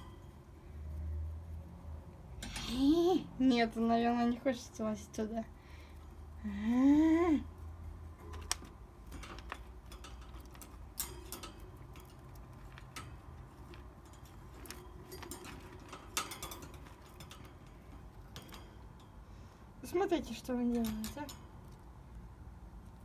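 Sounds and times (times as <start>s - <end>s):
wire cage rattling: 0.0s - 4.9s, 7.5s - 23.0s.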